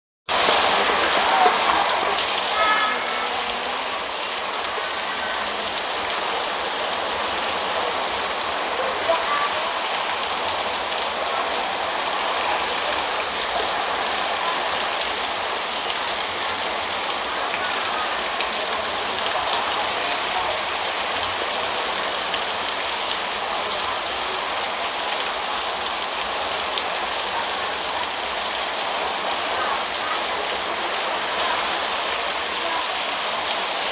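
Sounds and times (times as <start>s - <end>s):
heavy rain pouring: 0.3s - 33.9s.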